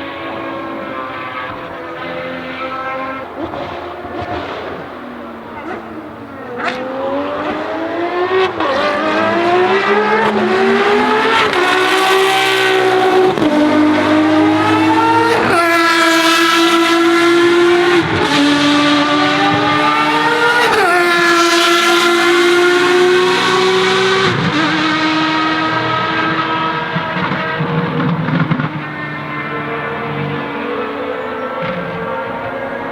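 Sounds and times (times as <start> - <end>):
car engine accelerating through gears: 0.0 - 32.9.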